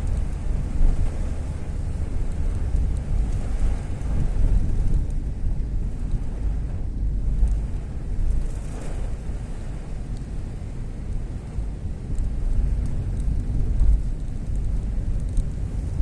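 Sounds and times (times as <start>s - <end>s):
heavy rain falling: 0.0s - 16.0s
ticks of raindrops: 0.0s - 16.0s
wind buffeting microphone: 0.0s - 16.0s.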